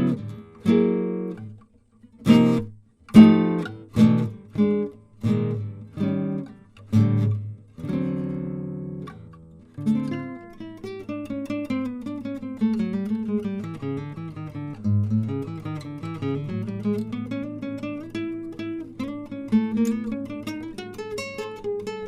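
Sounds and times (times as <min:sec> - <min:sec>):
guitar chords strummed with pick: 0:00.0 - 0:22.0.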